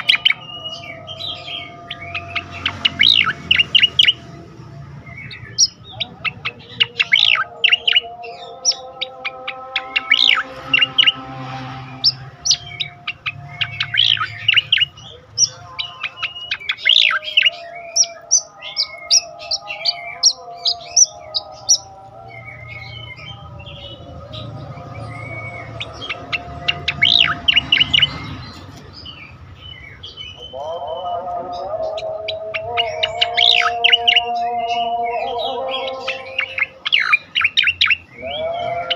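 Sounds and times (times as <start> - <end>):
bird chirping and whistling: 0.0 - 4.3, 5.0 - 38.9.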